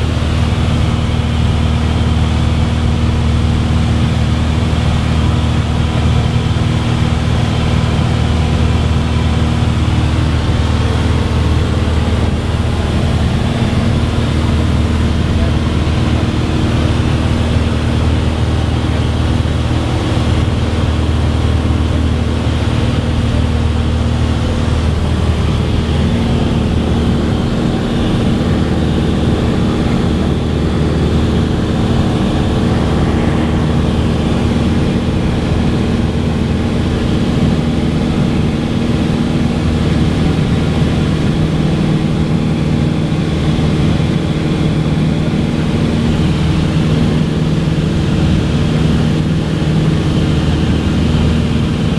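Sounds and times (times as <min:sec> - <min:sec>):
propeller plane engine droning: 0:00.0 - 0:51.9.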